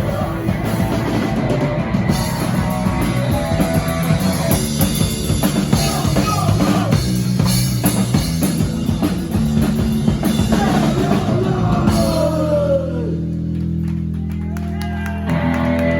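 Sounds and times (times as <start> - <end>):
drum kit: 0.0 - 13.8
bass guitar: 0.0 - 15.9
electric guitar: 0.0 - 15.9.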